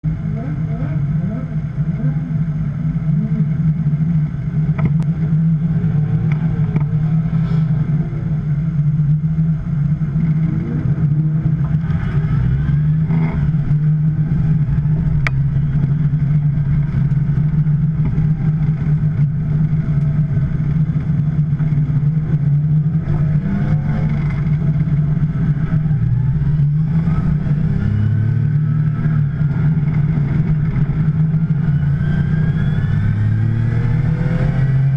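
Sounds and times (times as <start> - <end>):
sports car engine running: 0.0 - 34.9.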